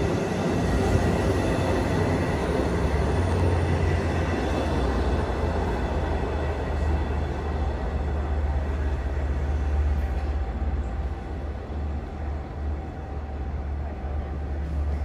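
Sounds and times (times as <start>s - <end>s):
low train drone: 0.0s - 15.0s.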